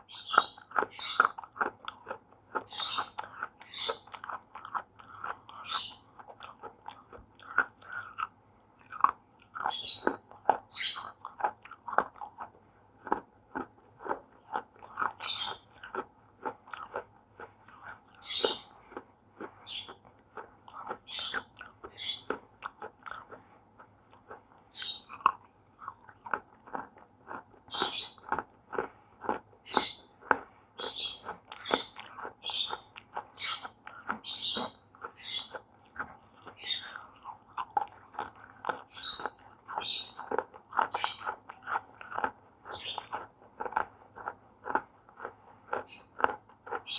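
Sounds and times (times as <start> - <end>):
slate pencils crunching when chewed: 0.0 - 46.9.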